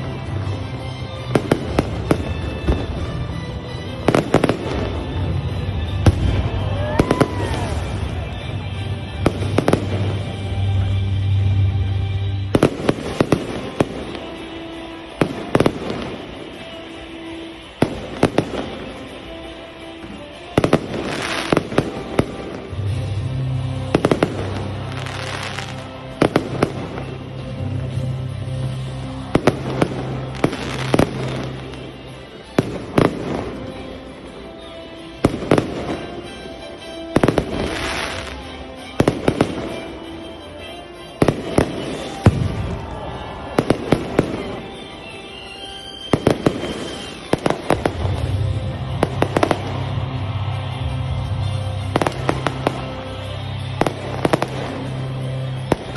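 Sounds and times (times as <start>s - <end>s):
firework bangs and crackling pops: 0.0s - 11.4s, 12.3s - 55.9s.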